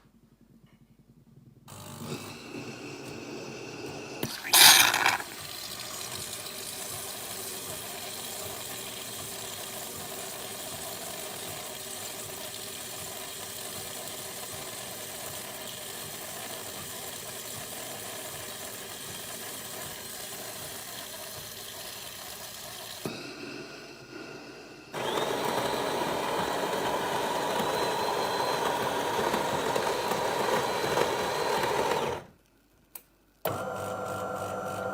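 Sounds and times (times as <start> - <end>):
coffee machine running: 1.7 - 32.3, 33.5 - 34.9.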